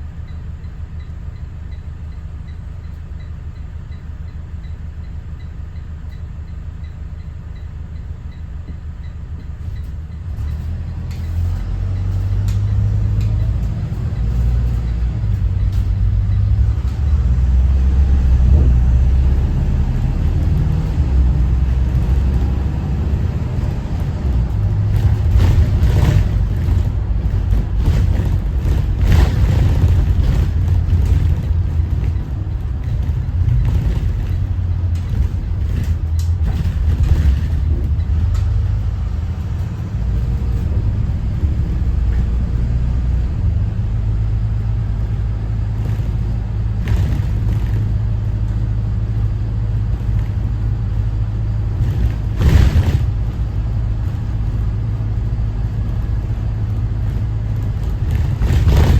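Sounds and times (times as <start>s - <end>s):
bus diesel engine rumbling: 0.0s - 58.9s
knocks and rattles: 8.6s - 43.4s, 45.6s - 58.9s.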